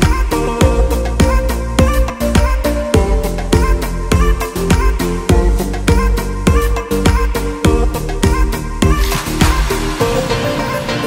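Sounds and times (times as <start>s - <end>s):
deep bass line: 0.0s - 10.8s
background music with steady beat: 0.0s - 11.0s.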